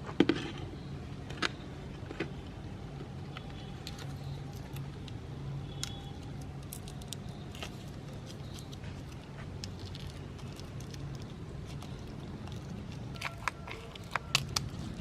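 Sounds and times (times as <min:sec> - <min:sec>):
crackles and snaps of crushing: 0:01.2 - 0:15.0.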